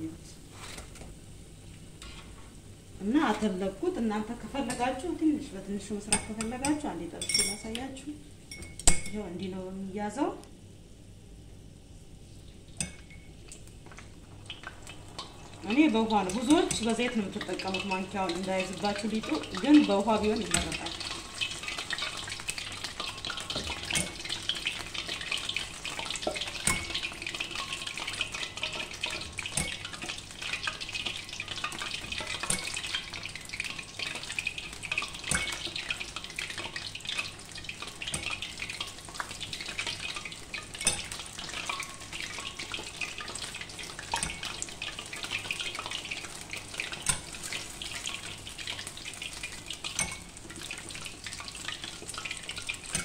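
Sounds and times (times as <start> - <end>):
dough sizzling in hot oil: 0.0 - 53.0.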